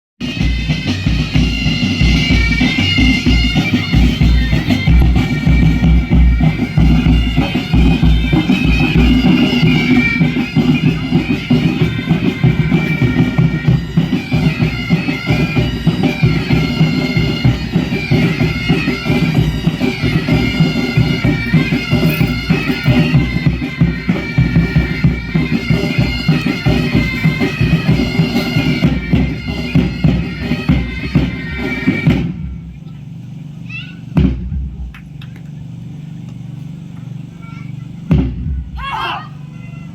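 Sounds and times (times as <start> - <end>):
bagpipes playing lively tune: 0.2 - 32.5
drums beating: 0.2 - 39.9.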